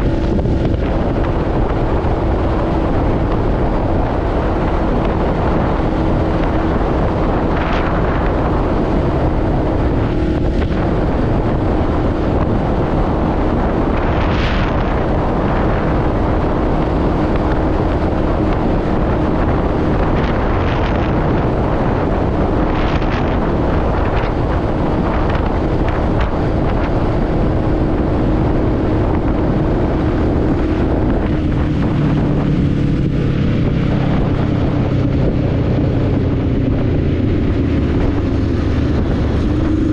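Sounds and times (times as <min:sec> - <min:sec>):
low hum: 0:00.0 - 0:39.9
motorcycle engine cruising: 0:00.0 - 0:39.9
wind buffeting microphone: 0:00.0 - 0:39.9.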